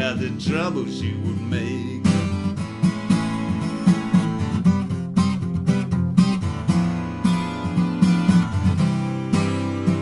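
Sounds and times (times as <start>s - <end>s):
twelve-string acoustic guitar strumming: 0.0s - 10.0s.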